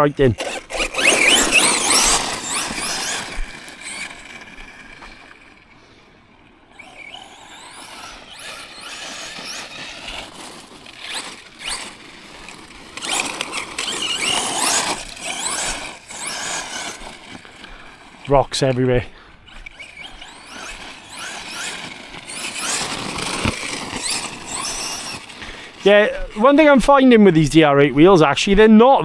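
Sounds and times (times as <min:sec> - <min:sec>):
electric motor whining: 0:00.0 - 0:28.5.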